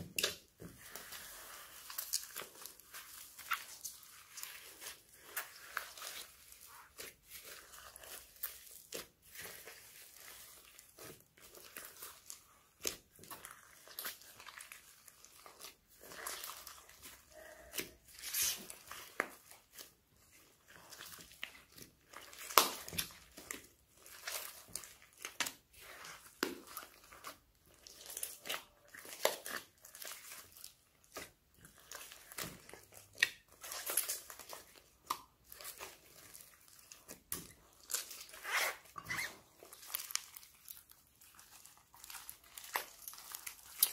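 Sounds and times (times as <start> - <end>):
slime with foam beads squelching: 0.0 - 43.9.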